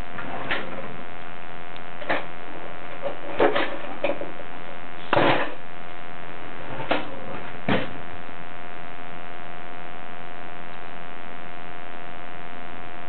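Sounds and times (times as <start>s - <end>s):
electrical hum with whine: 0.0s - 13.0s.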